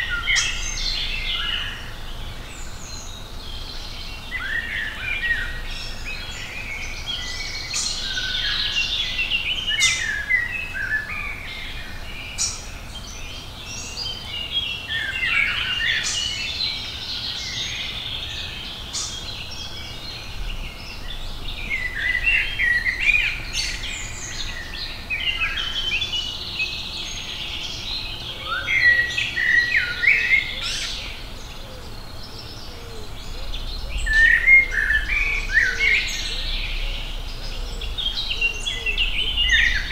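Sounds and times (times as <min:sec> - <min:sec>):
birds singing in chorus: 0:00.0 - 0:39.9.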